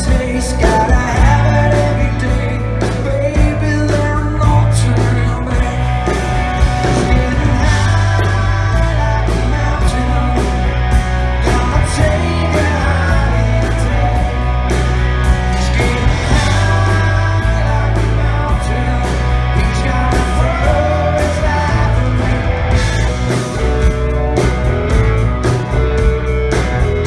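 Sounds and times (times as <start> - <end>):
lead vocal singing: 0.0 - 23.9
drums: 0.0 - 27.0
electric bass: 0.0 - 27.0
electric guitars: 0.0 - 27.0.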